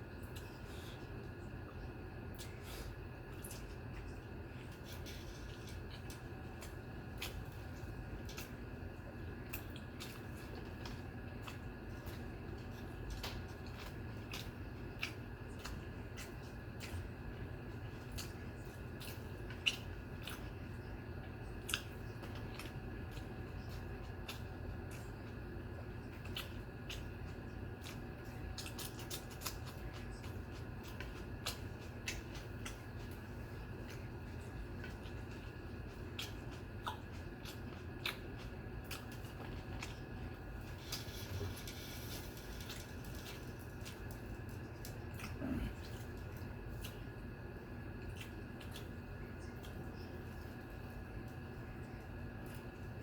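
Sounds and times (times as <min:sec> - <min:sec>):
steady low hum: 0:00.0 - 0:53.0
wet chewing: 0:00.1 - 0:53.0.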